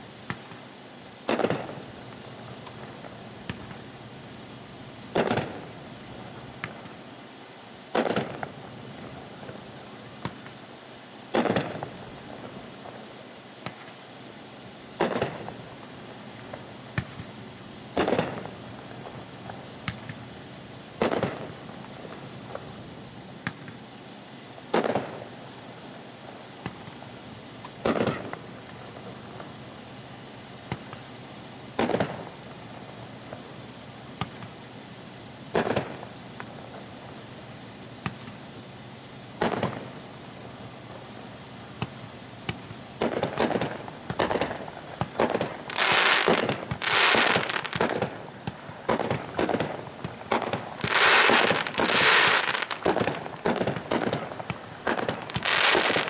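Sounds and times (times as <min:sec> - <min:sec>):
fireworks reports: 0:00.0 - 0:56.0
small fireworks pops: 0:00.0 - 0:56.0.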